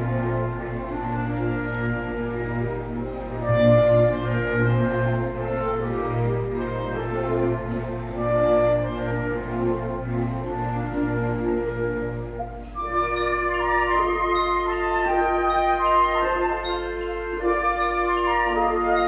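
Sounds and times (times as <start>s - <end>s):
mallet percussion melody: 0.0s - 19.0s
orchestra playing: 0.0s - 19.0s.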